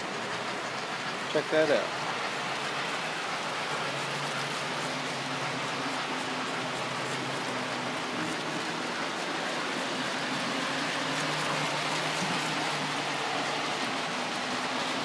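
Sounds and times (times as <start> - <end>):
faint motor hum: 0.0 - 15.0
model train wheels rolling on track: 0.0 - 15.0.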